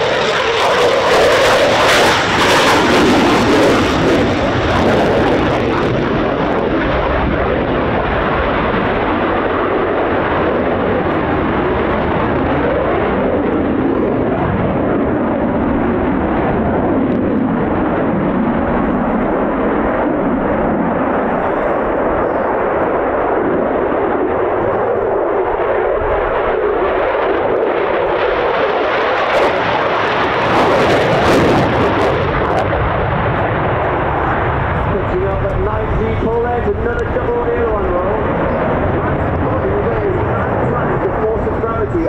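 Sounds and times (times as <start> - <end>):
jet crackle: 0.0 - 13.9, 15.3 - 42.0
jet engine rushing: 0.0 - 42.0.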